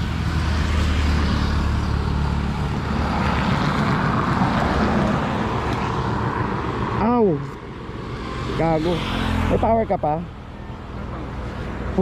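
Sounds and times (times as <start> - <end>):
wind rushing over microphone: 0.0 - 9.8
motorcycle engine drone: 0.0 - 12.0.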